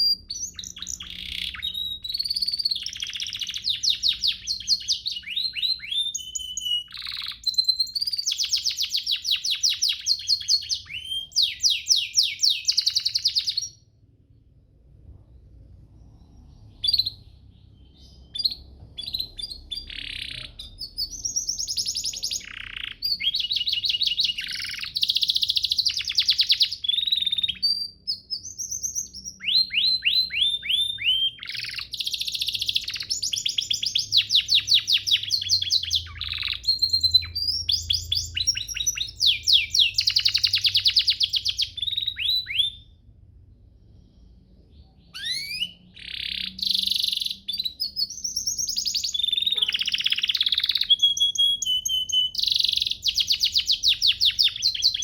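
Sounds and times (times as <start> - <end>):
canary singing trills: 0.0 - 14.0, 15.6 - 55.0.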